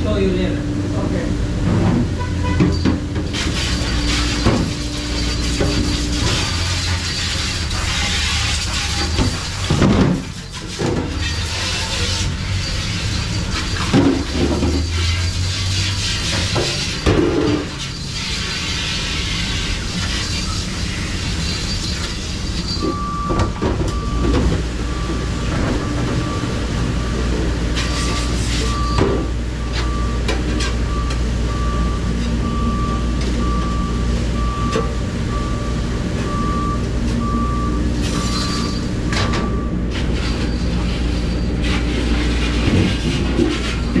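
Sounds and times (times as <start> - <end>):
moving vehicle rumble: 0.0 - 44.0.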